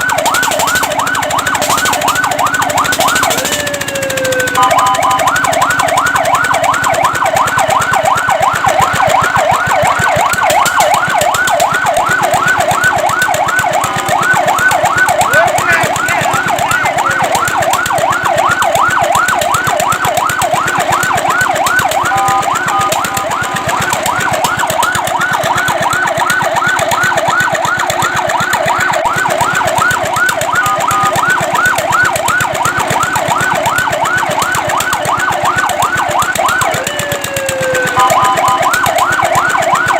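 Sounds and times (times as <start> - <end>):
fire truck siren yelping: 0.0 - 39.9.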